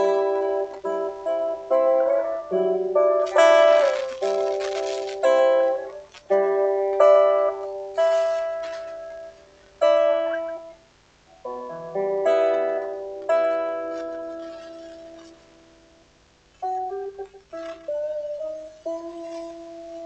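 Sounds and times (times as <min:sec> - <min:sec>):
guitar chords and plucked notes: 0:00.0 - 0:20.0.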